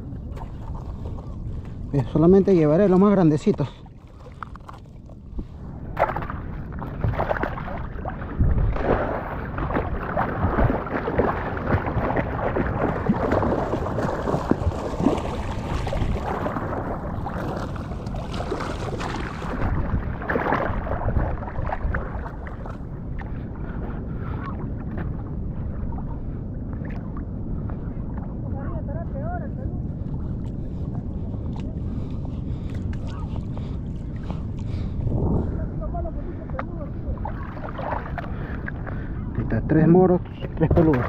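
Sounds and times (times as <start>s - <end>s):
sea water sloshing and splashing: 0.0s - 28.4s, 29.7s - 39.3s, 40.2s - 41.0s.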